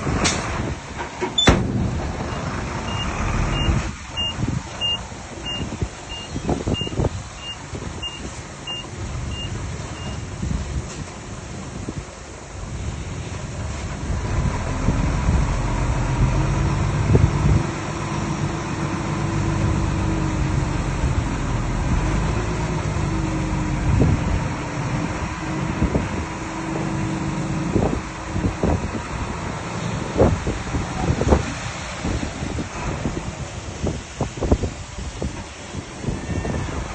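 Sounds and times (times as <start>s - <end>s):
heavy diesel engine running: 0.0s - 36.9s
wind on microphone: 0.0s - 36.9s.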